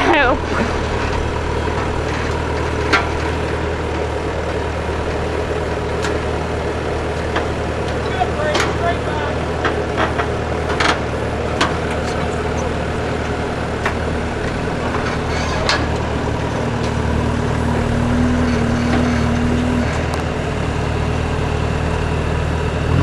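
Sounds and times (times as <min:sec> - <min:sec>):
loader engine running: 0:00.0 - 0:23.0.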